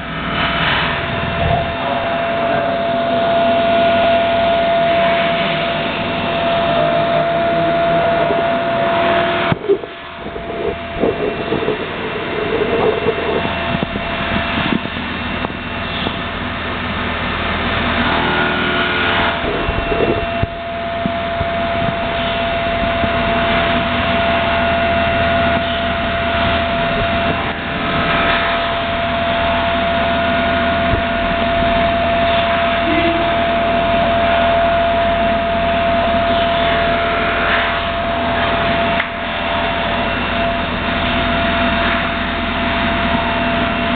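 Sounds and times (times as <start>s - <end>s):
milling machine whining: 0.0s - 43.9s.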